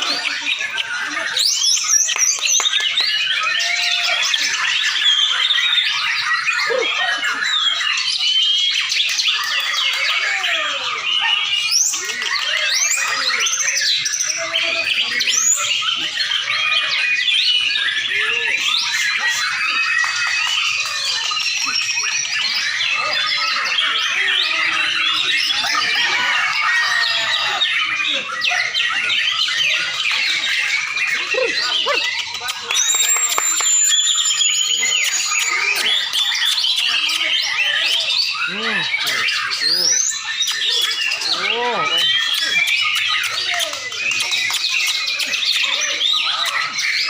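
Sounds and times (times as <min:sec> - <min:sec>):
birds singing whistles and chatter: 0:00.0 - 0:47.0.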